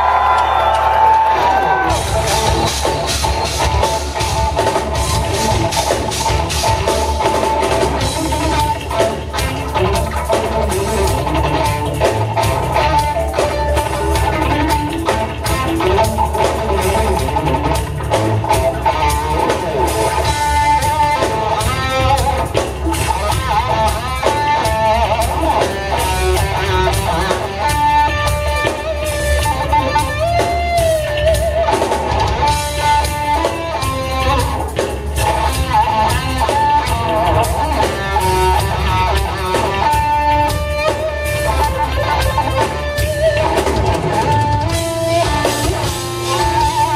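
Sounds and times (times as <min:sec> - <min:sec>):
bass guitar: 0:00.0 - 0:46.9
drum kit: 0:00.0 - 0:46.9
electric guitar melody: 0:00.0 - 0:46.9.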